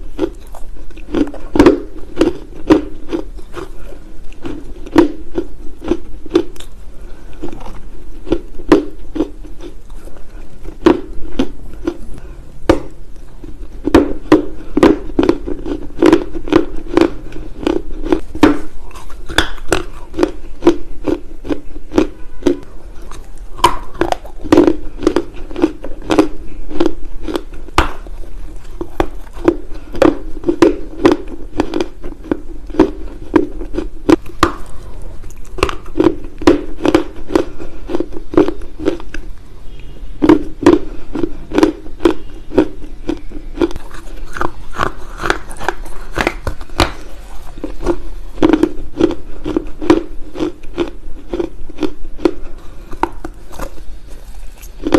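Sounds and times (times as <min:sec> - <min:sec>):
dull chewing thuds: 0:00.0 - 0:39.4, 0:40.2 - 0:54.9
clay crunching: 0:00.1 - 0:39.2, 0:40.2 - 0:54.9.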